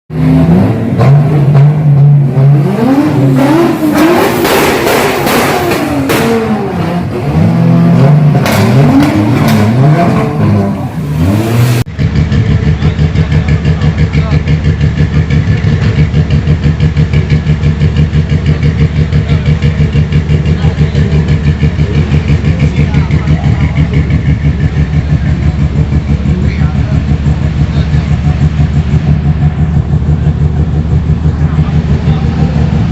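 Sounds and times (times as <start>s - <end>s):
sports car engine revving: 0.1s - 32.9s.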